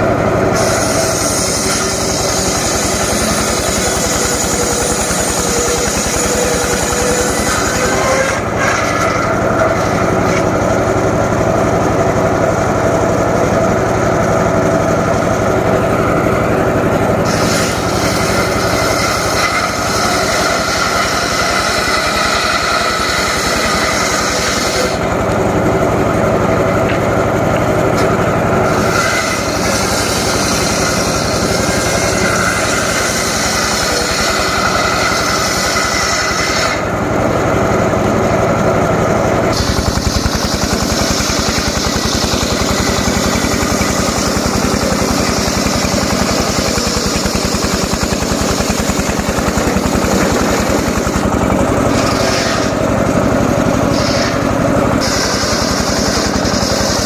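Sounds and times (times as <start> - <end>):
circular saw running: 0.0 - 57.0
saw blade cutting wood: 0.0 - 57.0.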